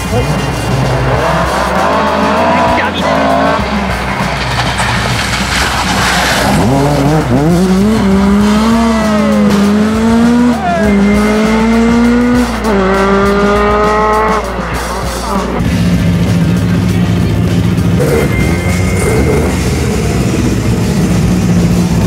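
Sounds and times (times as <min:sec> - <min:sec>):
music: 0:00.0 - 0:22.0
rally car engine revving: 0:00.0 - 0:22.0.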